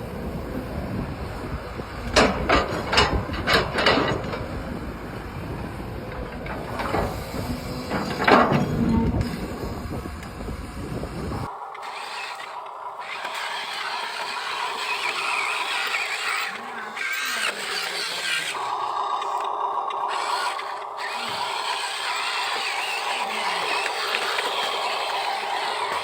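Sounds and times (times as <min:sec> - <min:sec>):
small electric motors whirring: 0:00.3 - 0:26.0.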